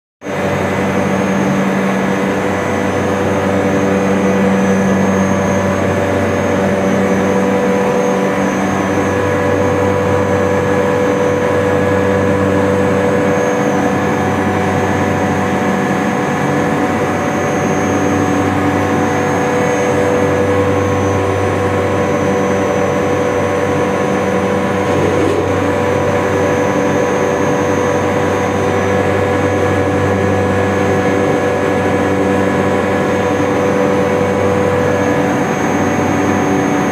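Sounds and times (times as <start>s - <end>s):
chiller machine drone: 0.2s - 36.9s.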